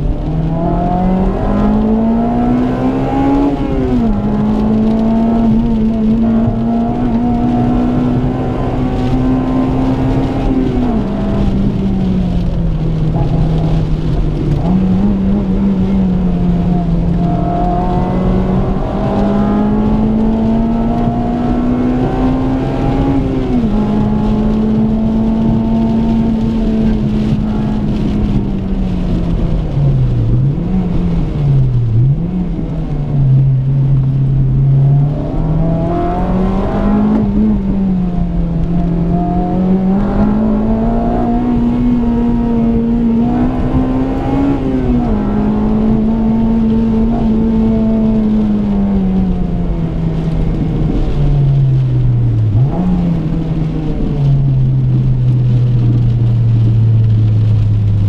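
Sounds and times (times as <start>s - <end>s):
car engine revving hard: 0.0s - 57.7s.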